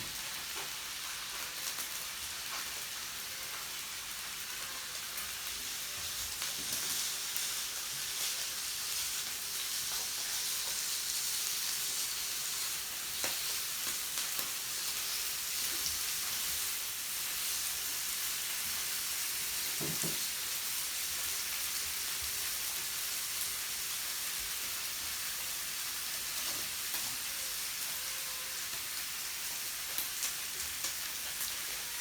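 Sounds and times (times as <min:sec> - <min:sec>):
meat sizzling on a grill: 0:00.0 - 0:32.0.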